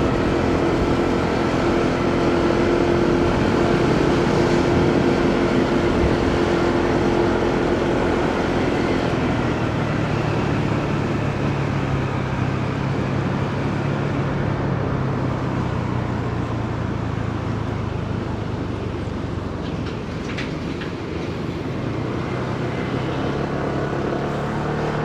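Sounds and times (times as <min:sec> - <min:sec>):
motorcycle engine running: 0:00.0 - 0:20.0
road and traffic noise: 0:00.0 - 0:25.0.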